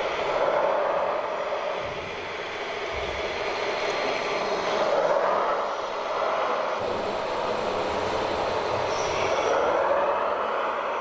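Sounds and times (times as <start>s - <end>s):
model machines engine drone: 0.0s - 11.0s.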